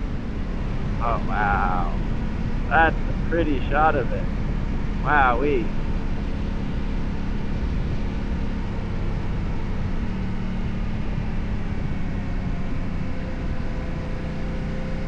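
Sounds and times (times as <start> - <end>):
motorcycle engine humming: 0.0 - 15.0.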